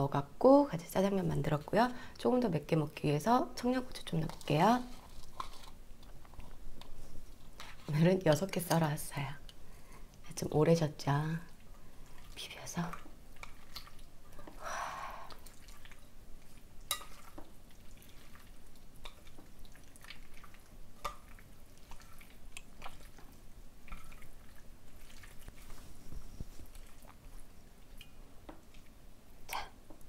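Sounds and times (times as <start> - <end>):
chopsticks mixing sticky noodles: 3.0 - 9.3, 10.3 - 14.6, 15.3 - 29.0.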